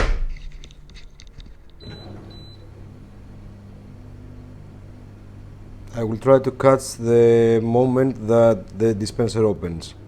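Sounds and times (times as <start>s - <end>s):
dishwasher pump humming: 1.8s - 10.0s.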